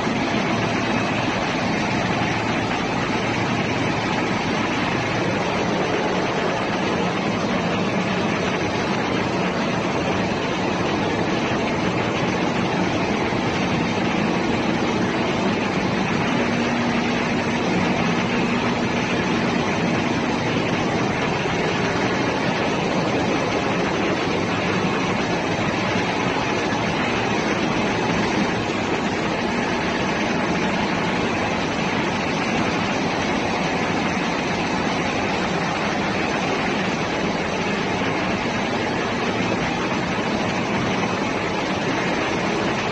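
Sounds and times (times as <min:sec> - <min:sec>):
engine room machinery running: 0:00.0 - 0:42.9.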